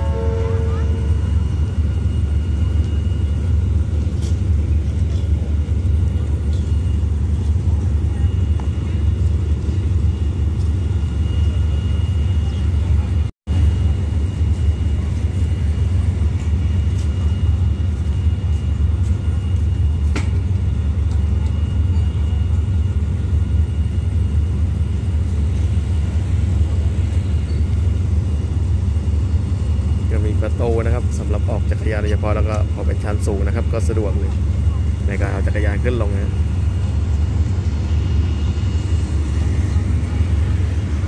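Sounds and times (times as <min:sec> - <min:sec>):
diesel locomotive idling: 0:00.0 - 0:41.0
faint high whine: 0:00.0 - 0:41.0.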